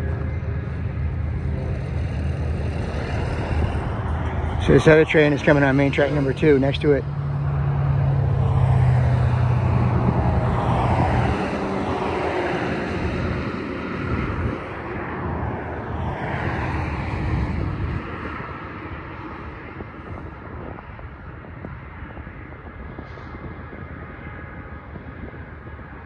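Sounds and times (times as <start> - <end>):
diesel locomotive drone: 0.0 - 26.0
rumble of rolling freight cars: 0.0 - 26.0.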